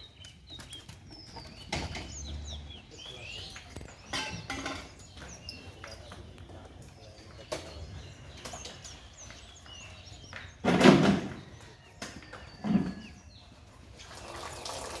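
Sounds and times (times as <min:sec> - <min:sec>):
small birds chirping: 0:00.0 - 0:14.4.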